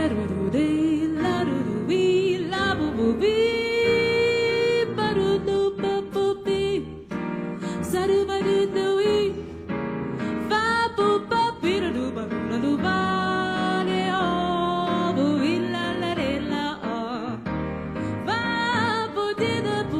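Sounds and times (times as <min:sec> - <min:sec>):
jazz melody with piano: 0:00.0 - 0:19.9.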